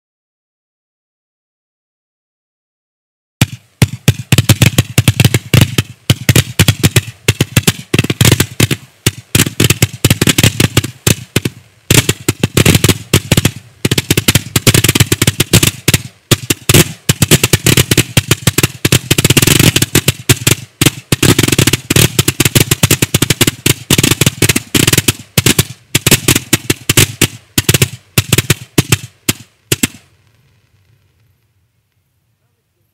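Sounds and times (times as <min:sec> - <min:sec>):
firework cake firing rapid shots: 0:03.4 - 0:30.1.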